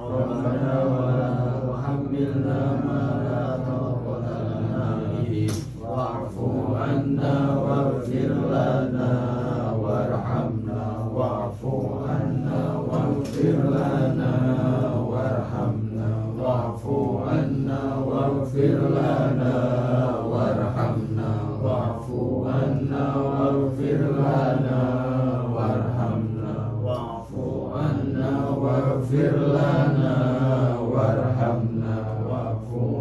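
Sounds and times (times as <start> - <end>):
group chanting prayers in unison: 0.0 - 33.0.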